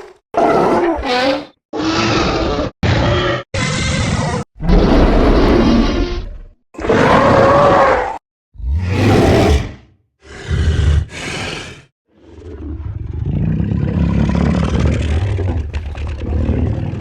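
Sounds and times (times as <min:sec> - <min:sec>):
dinosaur roaring: 0:00.0 - 0:17.0.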